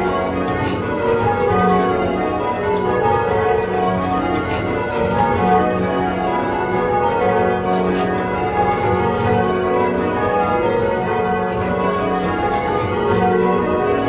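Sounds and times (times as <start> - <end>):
church bells change ringing: 0.0 - 14.0.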